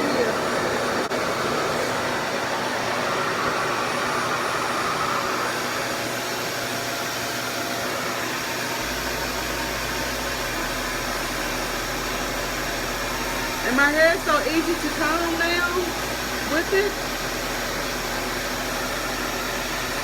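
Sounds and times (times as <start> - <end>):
hair dryer rush of air: 0.0 - 20.0.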